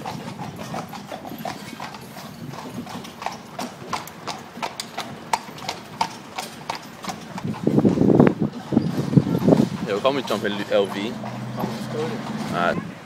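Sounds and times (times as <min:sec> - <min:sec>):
horse hooves clip-clopping on asphalt: 0:00.0 - 0:12.8.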